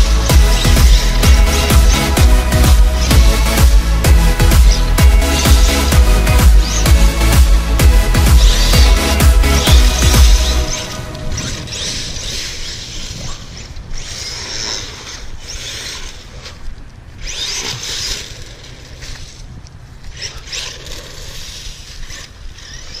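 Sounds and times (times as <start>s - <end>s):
electric motor whining: 0.0s - 23.0s
tyres and leaves rustling: 0.0s - 23.0s.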